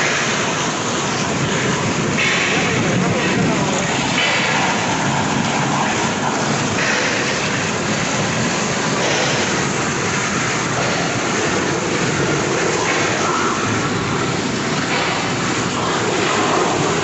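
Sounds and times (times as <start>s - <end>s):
heavy rain falling: 0.0s - 17.0s
water rushing through a drain: 0.0s - 17.0s.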